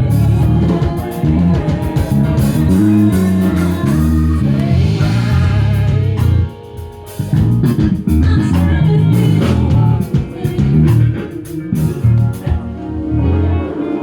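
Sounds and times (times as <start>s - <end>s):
bass guitar: 0.0s - 14.0s
drum kit: 0.0s - 14.0s
guitar: 0.0s - 14.0s.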